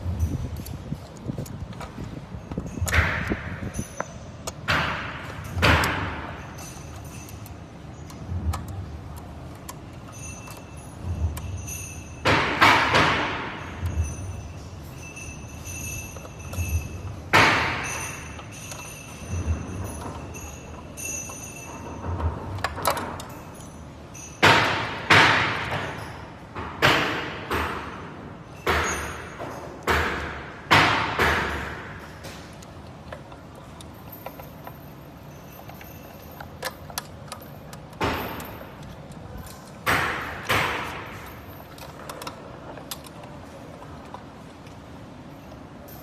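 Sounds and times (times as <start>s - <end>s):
tools knocking and clattering: 0.0s - 46.0s.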